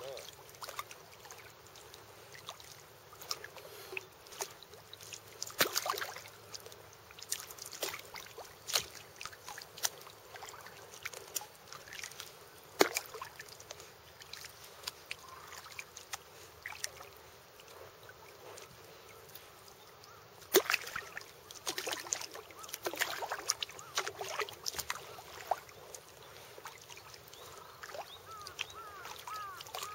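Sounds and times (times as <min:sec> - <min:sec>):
paddle splashing in water: 0:00.0 - 0:29.9.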